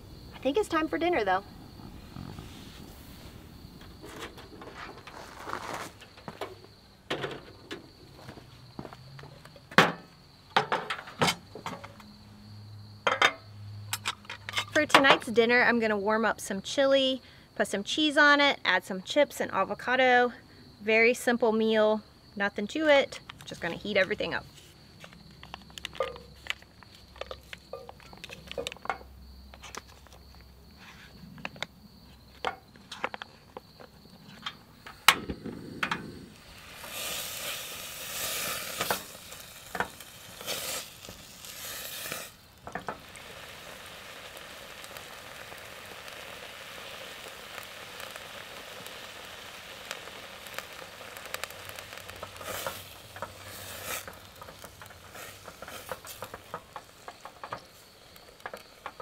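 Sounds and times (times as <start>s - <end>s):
chili sizzling in a pot: 0.0s - 18.2s, 22.2s - 31.2s, 36.2s - 59.0s.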